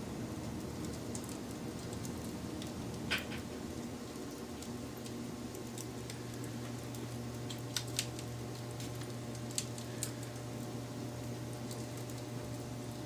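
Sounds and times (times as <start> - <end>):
steady low hum: 0.0 - 13.0
wood fire crackling: 0.0 - 13.0
fire pops and snaps: 0.4 - 13.0.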